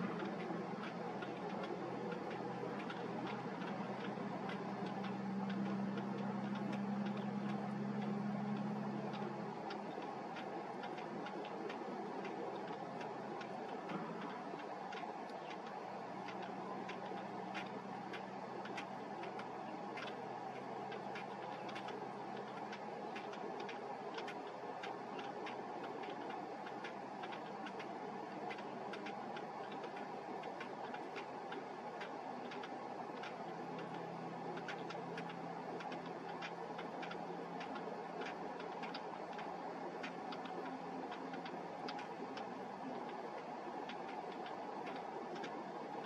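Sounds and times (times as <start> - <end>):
rapid sharp ticking: 0.0 - 46.0
steady background hum: 0.0 - 46.0.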